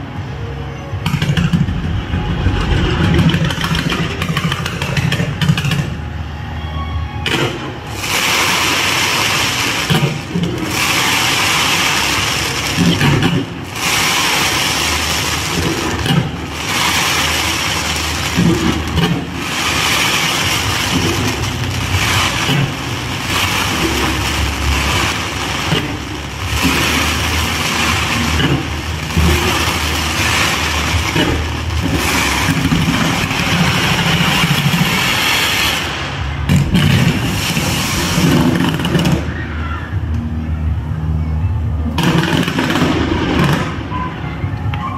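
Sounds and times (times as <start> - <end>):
low rumble: 0.0 - 39.4
fireworks crackling and bursting: 0.9 - 6.4, 7.2 - 40.9, 41.6 - 44.9.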